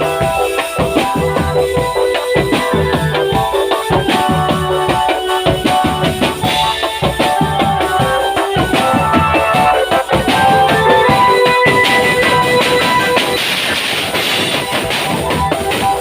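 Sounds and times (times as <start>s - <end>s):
band music: 0.0s - 16.0s
drum strokes and snare hits: 0.0s - 16.0s.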